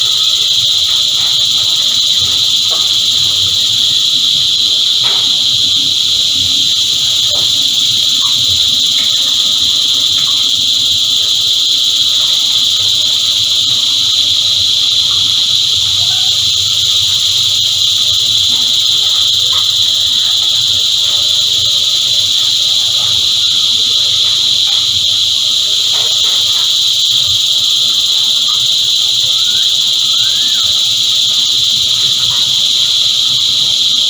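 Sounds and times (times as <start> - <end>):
cicadas droning: 0.0 - 34.0.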